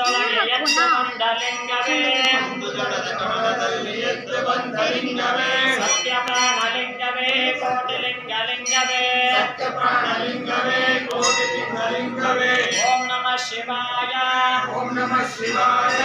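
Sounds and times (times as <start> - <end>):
men chanting mantras: 0.0 - 16.0.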